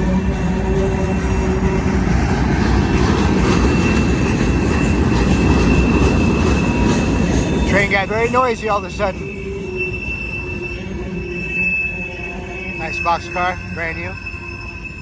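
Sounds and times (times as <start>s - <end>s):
wheel and rail rumble: 0.0s - 15.0s.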